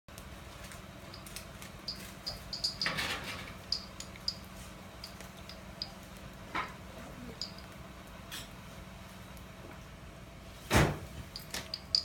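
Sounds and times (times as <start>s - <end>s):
low steady hum: 0.1s - 12.0s.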